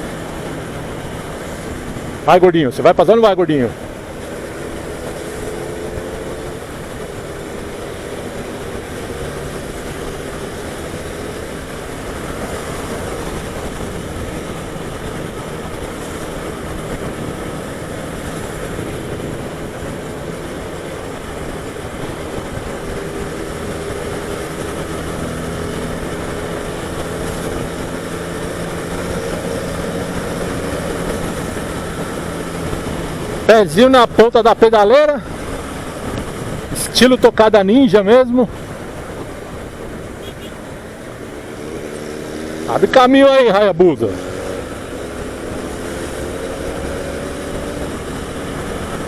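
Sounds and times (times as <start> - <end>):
motorcycle engine cruising: 0.0 - 49.0
wind rush on microphone: 0.0 - 49.0.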